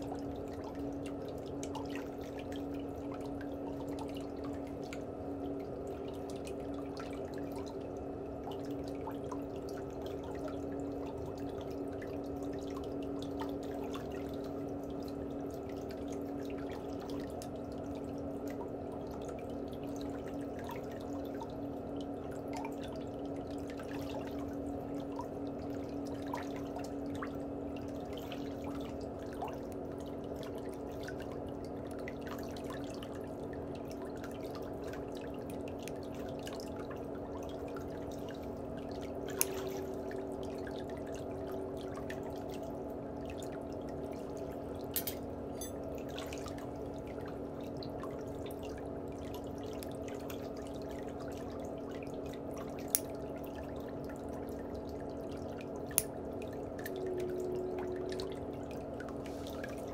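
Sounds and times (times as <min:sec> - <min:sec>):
steady low hum: 0:00.0 - 0:59.9
water trickling and dripping: 0:00.0 - 0:59.9.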